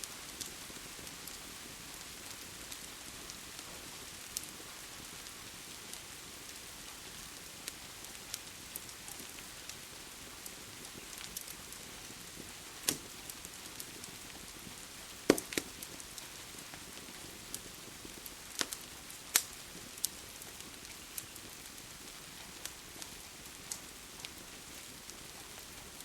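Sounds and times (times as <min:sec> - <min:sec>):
rain hiss: 0:00.0 - 0:26.0
wood fire crackling: 0:00.0 - 0:26.0.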